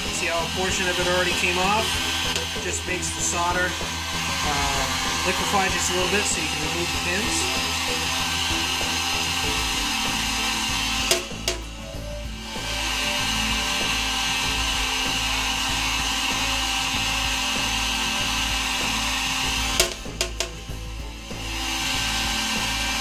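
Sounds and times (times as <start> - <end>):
heat gun blowing air: 0.0 - 23.0.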